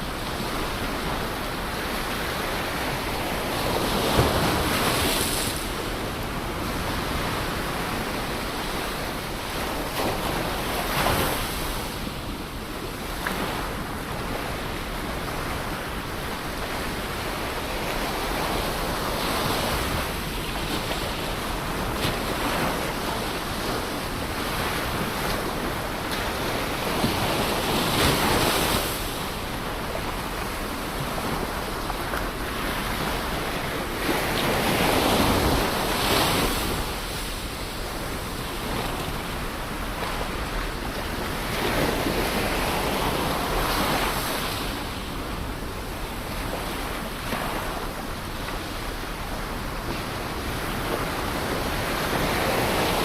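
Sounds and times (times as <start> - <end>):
ocean waves breaking on shore: 0.0 - 53.0
wind: 0.0 - 53.0.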